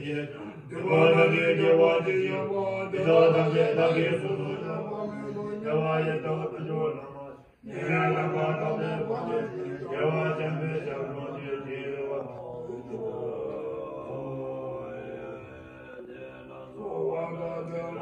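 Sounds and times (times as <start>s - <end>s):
monks chanting in low voices: 0.0s - 18.0s.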